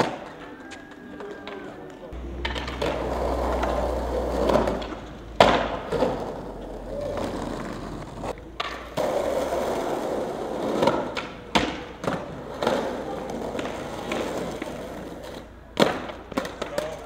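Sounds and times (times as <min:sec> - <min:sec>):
skateboard clacking on ground: 0:00.0 - 0:17.0
skateboard wheels rolling on pavement: 0:00.0 - 0:17.0.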